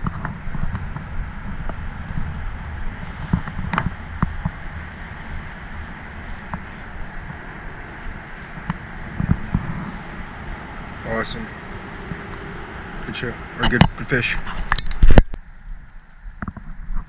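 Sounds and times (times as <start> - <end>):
wind buffeting microphone: 0.0 - 15.4.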